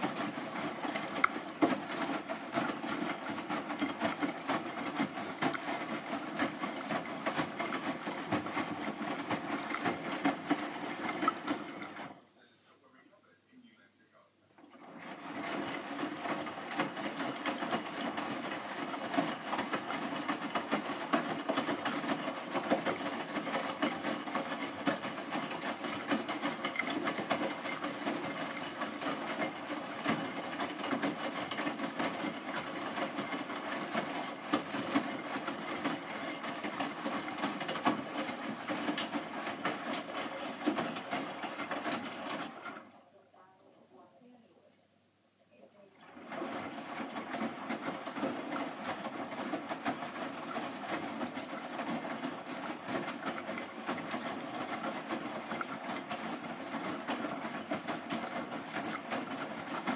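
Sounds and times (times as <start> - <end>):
washing machine churning water: 0.0 - 12.3, 14.6 - 44.4, 45.8 - 59.9.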